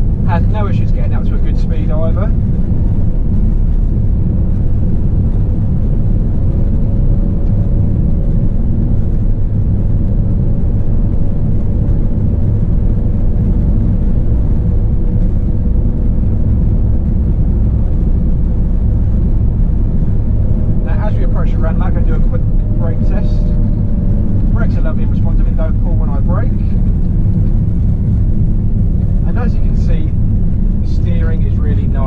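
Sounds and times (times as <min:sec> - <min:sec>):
diesel engine and road rumble: 0:00.0 - 0:32.0
faint hum: 0:00.0 - 0:32.0.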